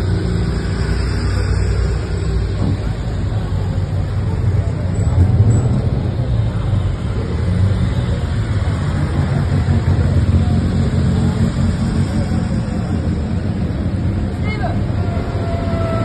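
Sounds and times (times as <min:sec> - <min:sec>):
car engines rumbling: 0:00.0 - 0:16.0
street noise: 0:00.0 - 0:16.0.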